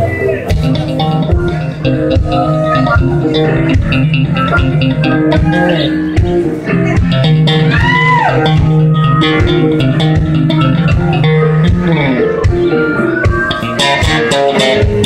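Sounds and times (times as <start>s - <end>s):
blues band playing: 0.0s - 15.0s
electric guitar note bending: 0.0s - 15.0s.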